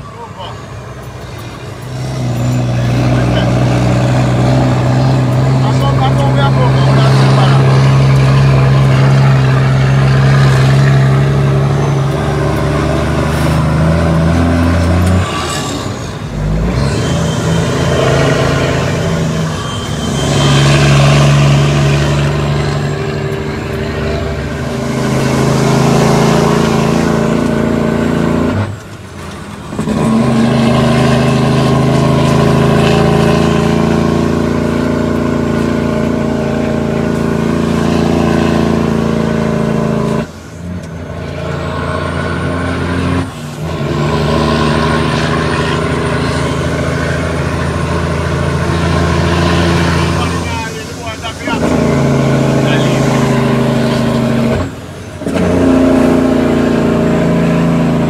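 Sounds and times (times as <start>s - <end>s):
diesel truck engine pulling: 0.0s - 58.0s.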